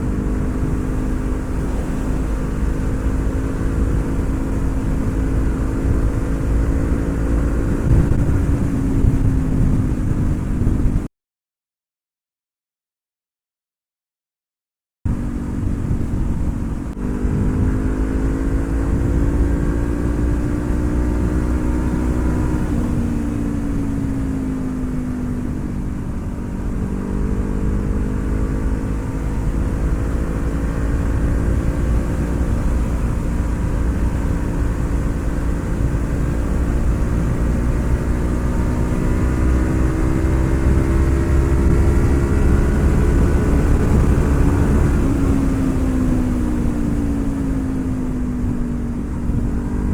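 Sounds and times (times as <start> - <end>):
motorcycle engine running: 0.0 - 11.1, 15.1 - 49.9
rushing air rumble: 0.0 - 11.1, 15.1 - 49.9.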